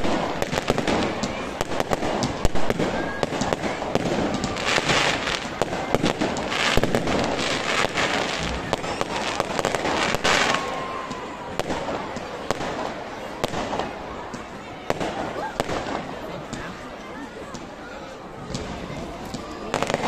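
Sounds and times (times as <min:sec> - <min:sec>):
fireworks cracks and bangs: 0:00.0 - 0:16.9, 0:18.4 - 0:20.0
hissing crackle of fireworks: 0:00.0 - 0:16.9, 0:17.5 - 0:20.0.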